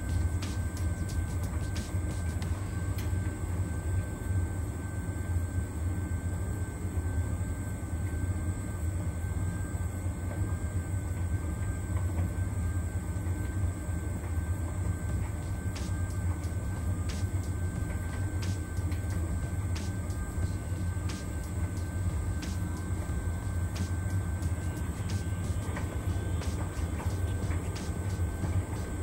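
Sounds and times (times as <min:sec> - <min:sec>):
tumble dryer humming: 0:00.0 - 0:29.0.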